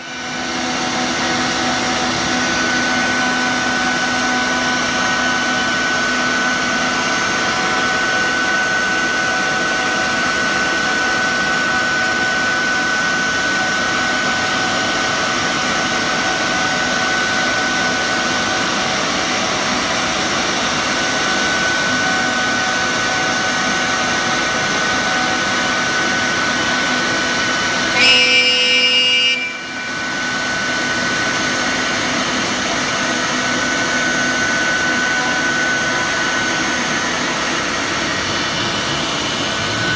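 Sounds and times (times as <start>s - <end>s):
dust extraction running: 0.0s - 39.9s
router spindle whining: 0.0s - 39.9s.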